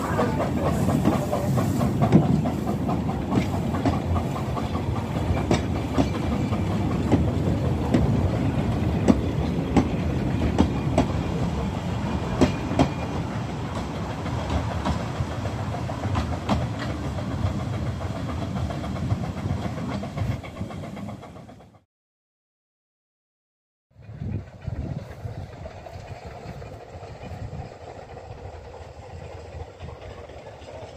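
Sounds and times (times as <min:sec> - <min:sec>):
train wheels clattering over rail joints: 0:00.0 - 0:21.8, 0:24.0 - 0:30.9
train carriages rumbling: 0:00.0 - 0:21.9, 0:23.9 - 0:30.9.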